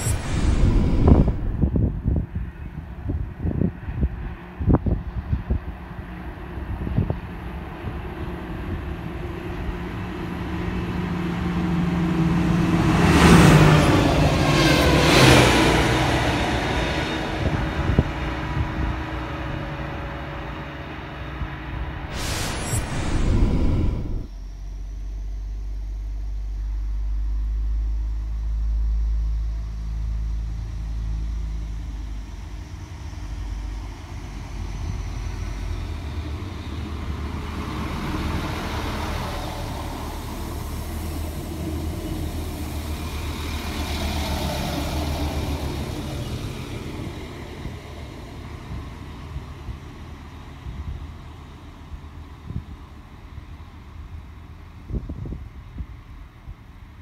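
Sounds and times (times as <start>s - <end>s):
train wheel and rail noise: 0.0s - 24.3s, 31.7s - 57.0s
diesel train engine drone: 0.0s - 57.0s.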